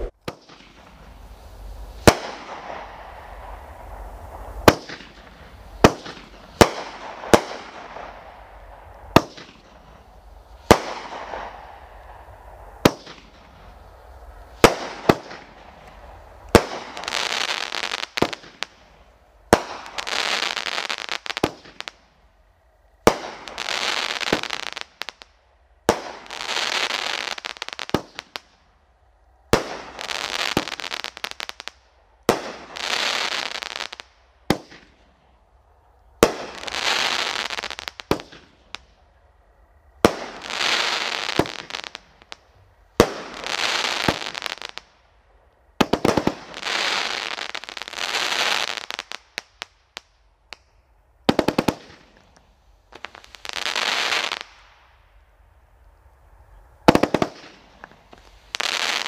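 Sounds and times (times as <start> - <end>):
firework bangs: 0.0 - 22.0, 23.0 - 28.5, 29.5 - 35.0, 36.2 - 38.8, 40.0 - 42.4, 43.0 - 44.9, 45.8 - 50.6, 51.2 - 54.9, 56.8 - 59.0
firework crackling: 0.0 - 35.5, 36.1 - 39.0, 39.8 - 55.5, 56.3 - 59.0.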